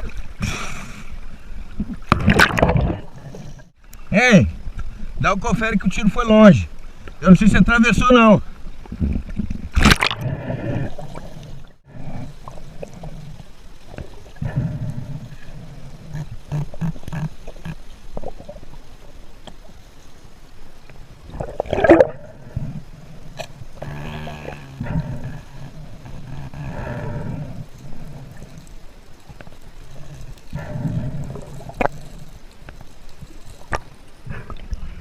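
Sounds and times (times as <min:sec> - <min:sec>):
sharp underwater noise: 0:00.0 - 0:05.2, 0:07.1 - 0:19.9, 0:20.9 - 0:35.0.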